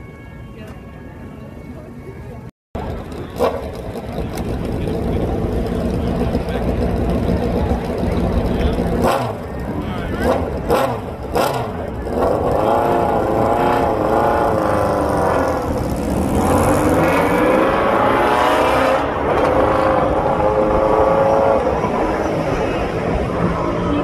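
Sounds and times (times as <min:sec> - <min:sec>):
motorcycle engines revving: 0:02.8 - 0:24.0.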